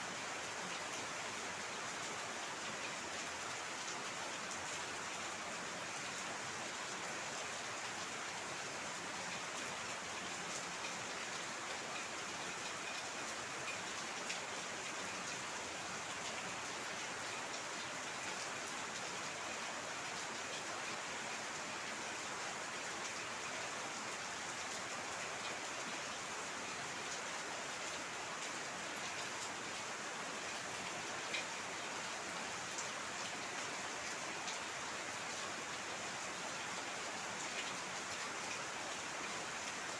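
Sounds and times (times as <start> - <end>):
heavy rain hiss: 0.0 - 39.9
raindrops ticking on a surface: 0.1 - 39.9.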